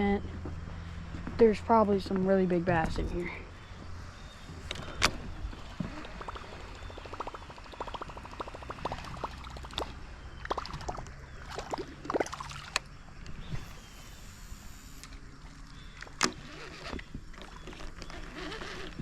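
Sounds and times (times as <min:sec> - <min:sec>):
water splashing and trickling: 0:01.4 - 0:14.1, 0:15.0 - 0:19.0.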